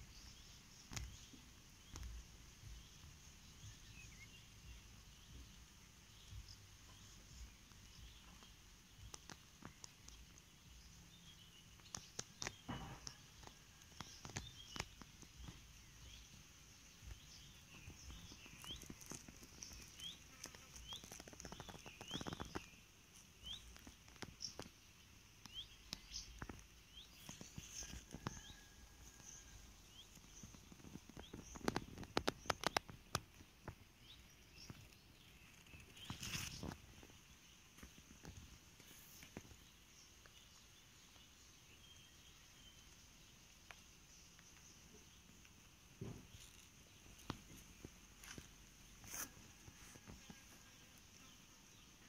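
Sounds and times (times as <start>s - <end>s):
bird chirping: 0.0s - 52.0s
steady high hiss: 0.0s - 52.0s.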